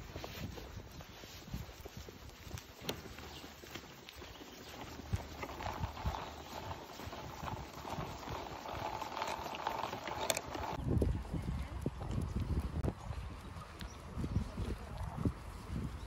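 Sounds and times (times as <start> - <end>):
footsteps on asphalt: 0.0 - 16.0.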